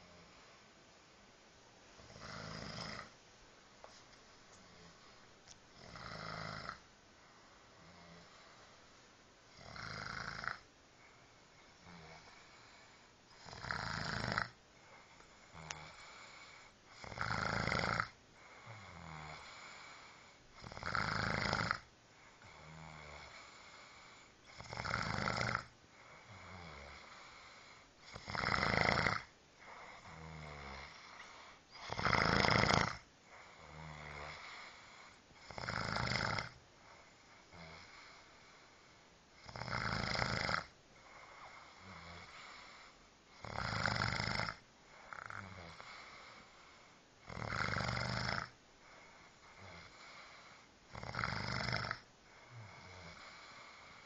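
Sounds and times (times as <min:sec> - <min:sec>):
quiet breathing: 0:00.0 - 0:54.0
person snoring: 0:02.0 - 0:03.2, 0:04.6 - 0:06.8, 0:07.7 - 0:08.8, 0:09.5 - 0:10.7, 0:11.8 - 0:38.3, 0:39.4 - 0:54.0.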